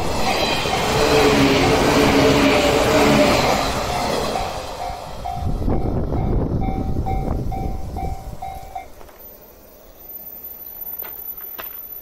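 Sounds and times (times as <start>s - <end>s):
level-crossing alarm beeping: 0.0s - 12.0s
passing electric train rumble: 0.0s - 12.0s.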